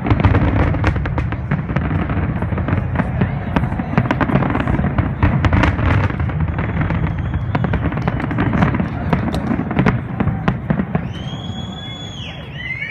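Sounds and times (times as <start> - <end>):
fireworks bangs and crackles: 0.0 - 12.9.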